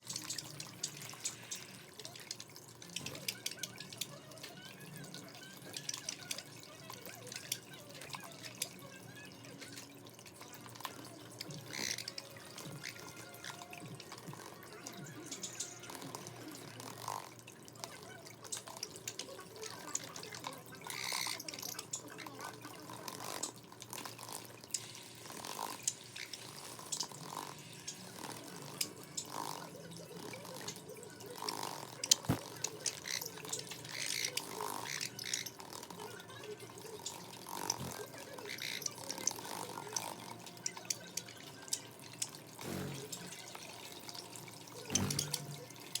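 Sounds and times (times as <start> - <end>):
birds splashing in water: 0.0 - 46.0.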